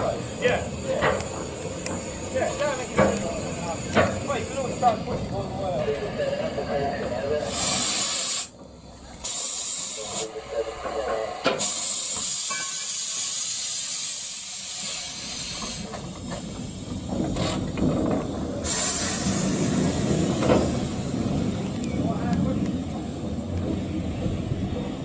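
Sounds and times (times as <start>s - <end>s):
steam hissing: 0.0s - 25.0s.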